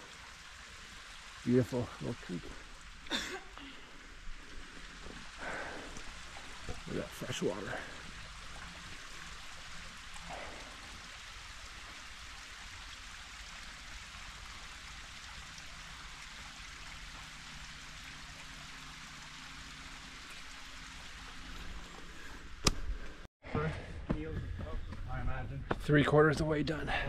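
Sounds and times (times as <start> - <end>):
creek water rushing: 0.0 - 23.3.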